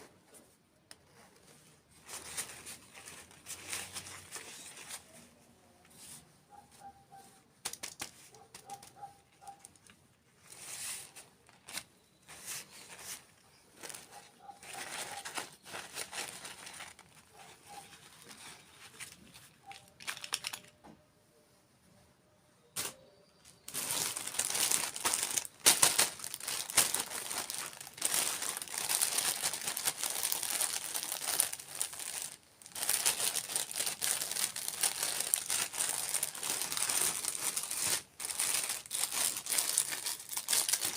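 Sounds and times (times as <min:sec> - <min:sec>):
plastic wrapping crinkling: 0:01.9 - 0:05.3, 0:07.7 - 0:20.8, 0:23.6 - 0:40.9.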